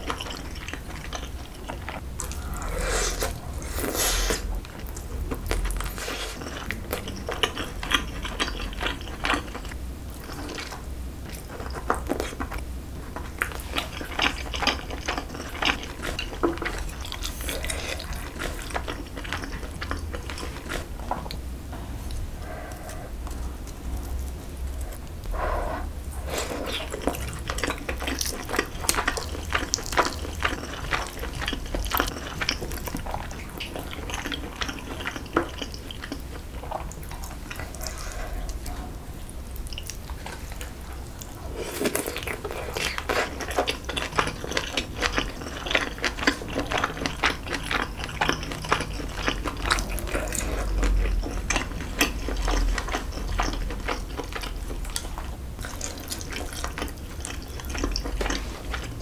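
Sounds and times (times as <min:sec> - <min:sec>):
wet chewing with mouth clicks: 0:00.0 - 0:21.4, 0:22.0 - 0:59.0.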